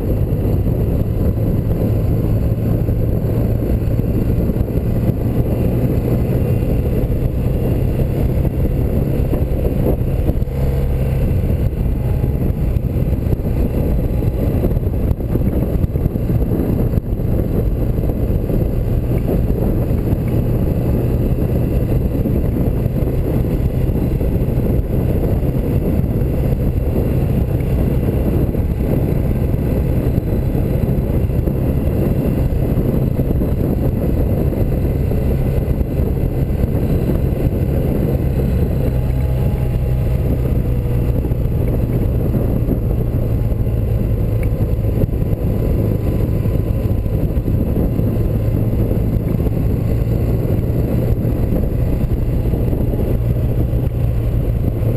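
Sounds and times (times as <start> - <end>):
constant rushing noise: 0.0 - 54.9
motorcycle engine running: 0.0 - 54.9.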